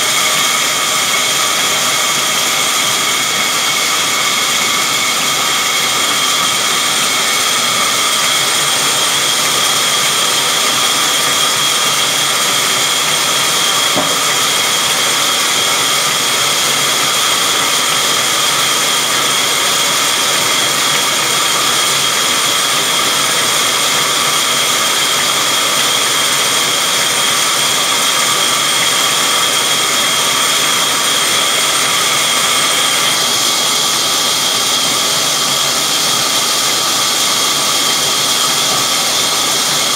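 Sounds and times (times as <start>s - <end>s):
band saw whining: 0.0s - 39.9s.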